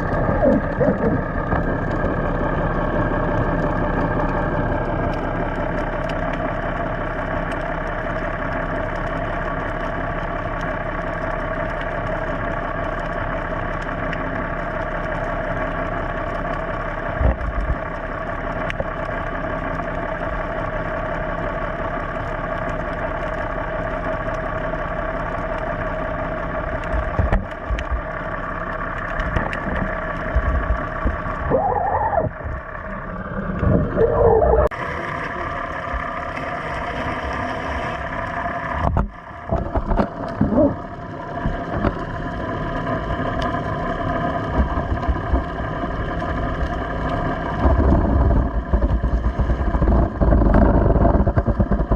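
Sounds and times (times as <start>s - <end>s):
boat engine idling: 0.0s - 51.9s.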